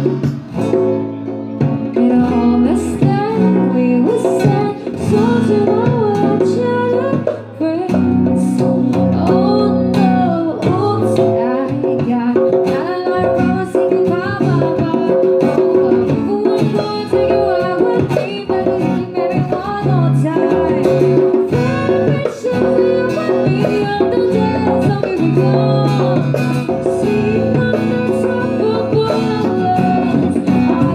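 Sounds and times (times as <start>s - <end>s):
hand drum: 0.0s - 30.9s
strummed guitar: 0.0s - 30.9s
woman singing into microphone: 0.0s - 30.9s.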